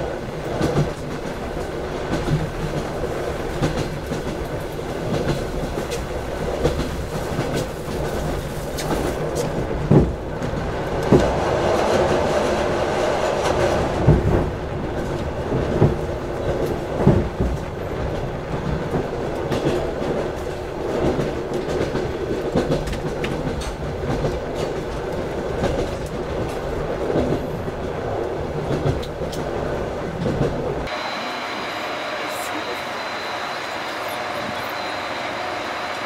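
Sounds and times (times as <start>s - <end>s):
clickety-clack over rail joints: 0.0s - 31.0s
train wheels rumbling: 0.0s - 36.0s.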